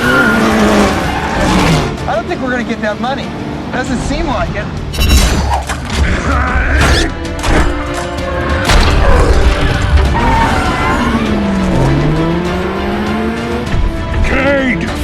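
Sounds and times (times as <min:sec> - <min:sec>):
dramatic film score: 0:00.0 - 0:15.0.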